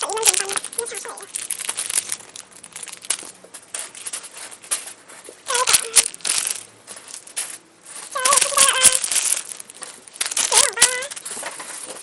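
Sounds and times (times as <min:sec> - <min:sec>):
plastic crinkling and clicking: 0:00.0 - 0:12.0.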